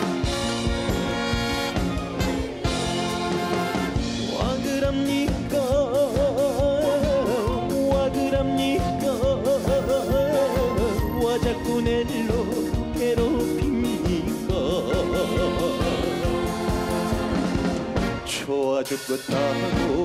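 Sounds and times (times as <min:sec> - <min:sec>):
steady drum beat: 0:00.0 - 0:18.5
band playing instrumental: 0:00.0 - 0:20.0.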